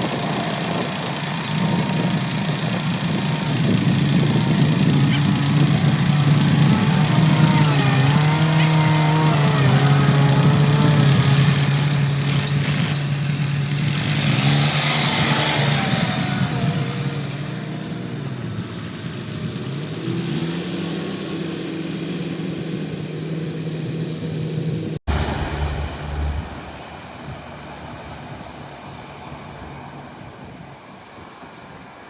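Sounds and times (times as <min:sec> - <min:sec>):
harvester engine running: 0:00.0 - 0:29.2.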